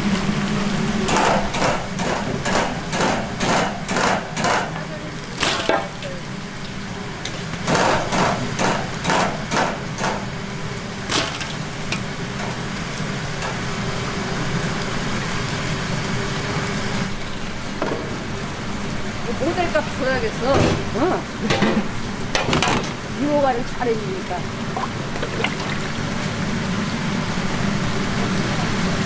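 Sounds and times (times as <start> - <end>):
constant low hum: 0.0 - 29.0.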